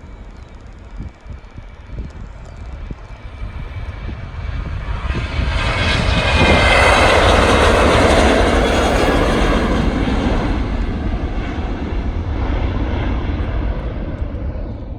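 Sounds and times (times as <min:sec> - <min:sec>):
airliner engines: 0:00.0 - 0:14.9.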